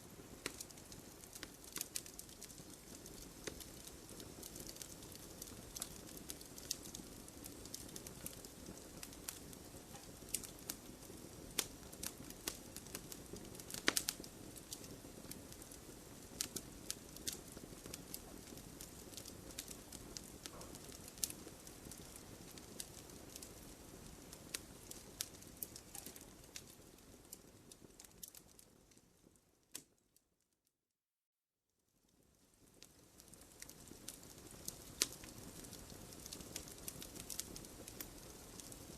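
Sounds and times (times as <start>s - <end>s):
campfire crackling and popping: 0.0s - 30.0s, 32.6s - 38.9s
soft fire hiss: 0.0s - 30.0s, 31.9s - 38.9s.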